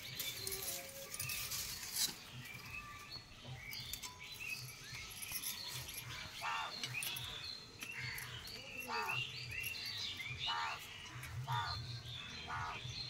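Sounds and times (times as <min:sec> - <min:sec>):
twigs and straw rustling: 0:00.0 - 0:12.7
small birds chirping: 0:00.0 - 0:13.0.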